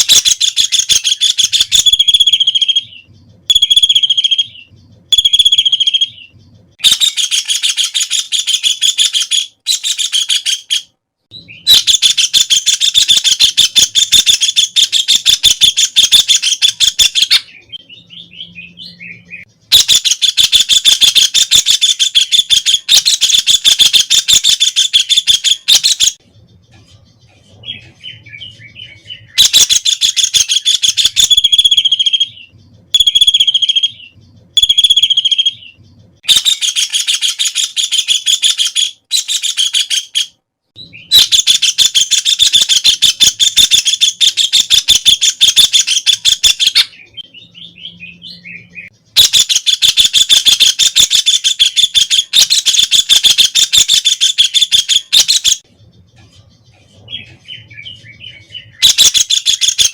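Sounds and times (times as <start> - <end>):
soft bird chatter: 0.0 - 59.9.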